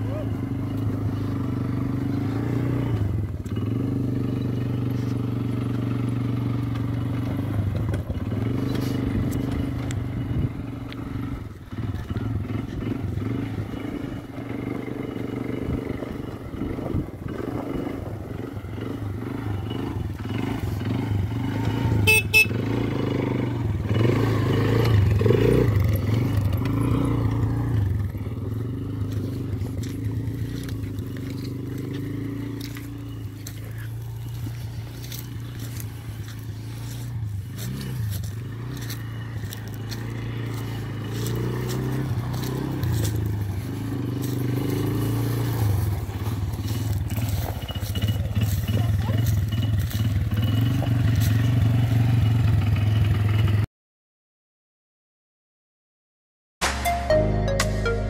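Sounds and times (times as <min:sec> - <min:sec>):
tyres on gravel: 0:00.0 - 0:53.6
quad bike engine: 0:00.0 - 0:53.7.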